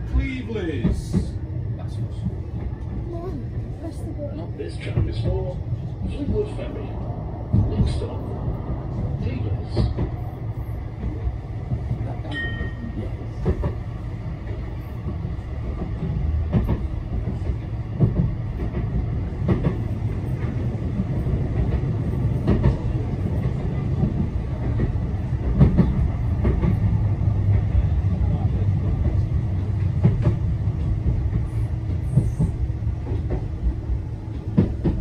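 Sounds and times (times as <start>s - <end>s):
tram wheels knocking: 0.0s - 1.5s, 4.4s - 10.3s, 10.9s - 35.0s
tram low rumble: 0.0s - 35.0s.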